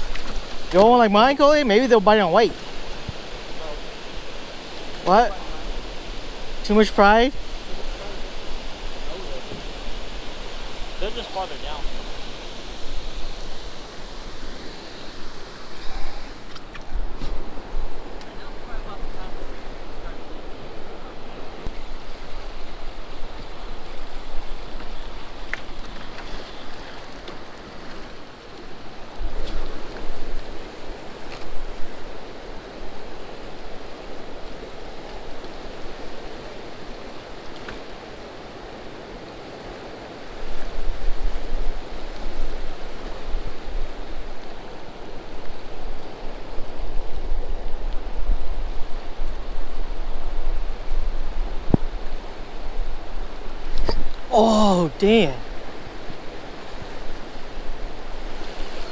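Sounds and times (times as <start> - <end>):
rain hiss: 0.0 - 58.9.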